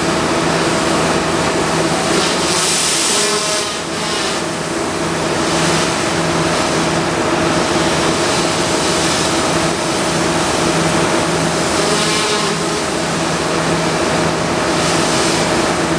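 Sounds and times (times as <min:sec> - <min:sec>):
machine hum: 0:00.0 - 0:15.9
water jet hissing: 0:00.0 - 0:15.9.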